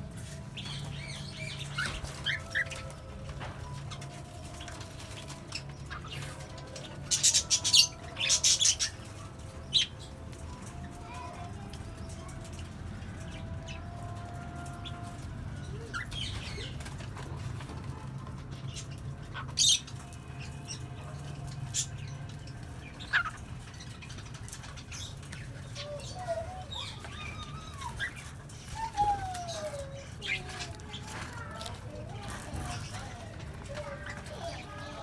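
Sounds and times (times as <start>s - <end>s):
parrots chirping and calling: 0.2s - 35.0s.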